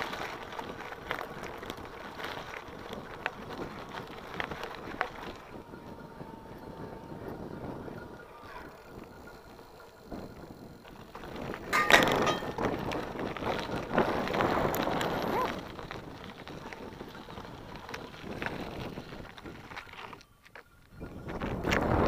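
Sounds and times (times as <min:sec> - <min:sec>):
bike rattling and clicking: 0:00.0 - 0:22.0
tyres crunching on gravel: 0:00.0 - 0:22.0.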